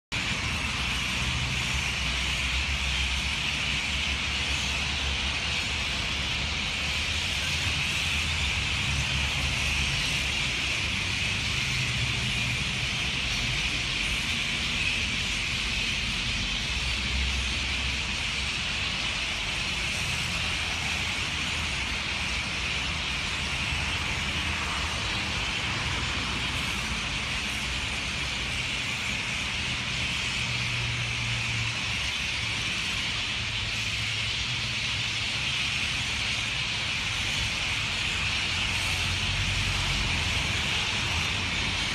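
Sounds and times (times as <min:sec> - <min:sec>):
flock of birds chattering: 0:00.1 - 0:41.9.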